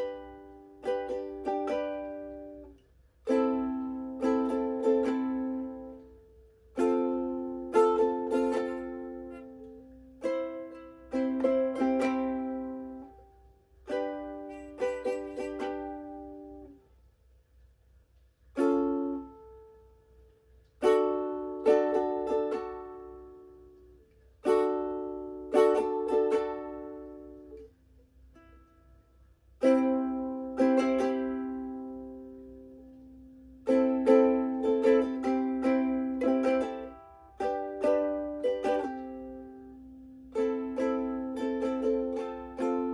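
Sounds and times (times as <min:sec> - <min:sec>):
ukulele chords strummed: 0:00.0 - 0:42.9.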